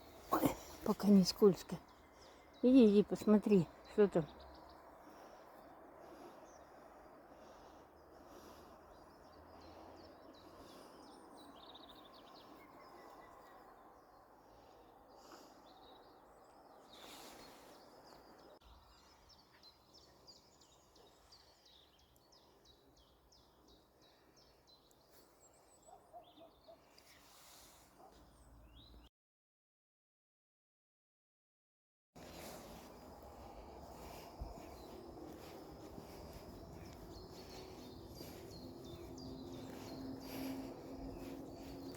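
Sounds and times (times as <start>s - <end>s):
birds chirping and trilling: 0.0s - 29.0s, 32.2s - 41.9s.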